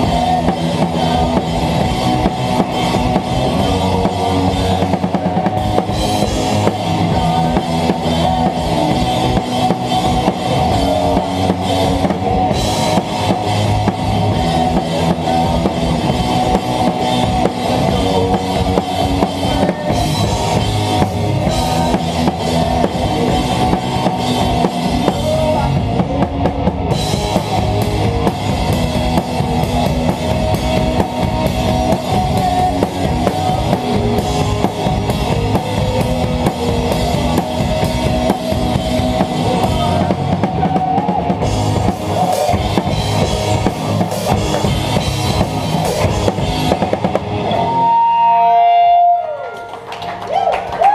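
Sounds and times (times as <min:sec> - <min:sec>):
drum kit played hard: 0:00.0 - 0:49.3
rock band playing live: 0:00.0 - 0:50.9
sustained electric guitar: 0:00.0 - 0:50.9.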